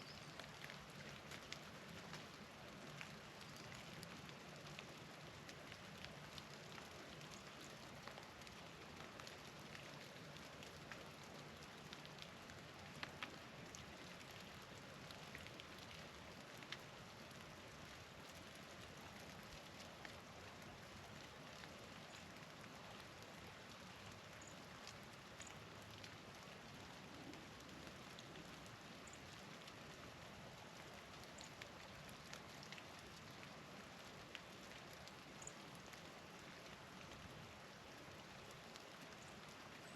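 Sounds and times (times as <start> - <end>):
wet snow and sleet pattering: 0.0 - 39.9.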